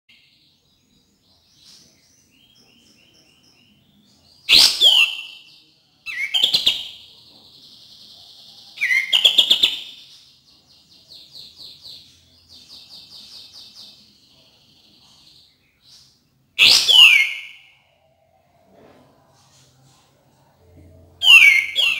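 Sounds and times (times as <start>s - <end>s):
songbird singing: 0.1s - 21.9s.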